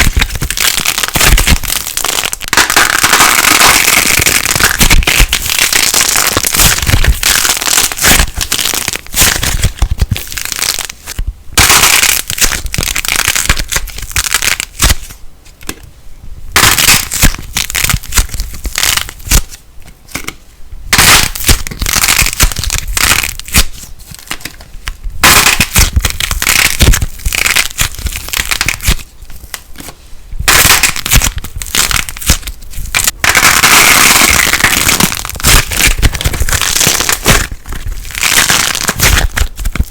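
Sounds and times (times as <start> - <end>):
slime crackling and popping: 0.0 - 15.2, 16.5 - 19.6, 20.9 - 29.8, 30.4 - 39.9.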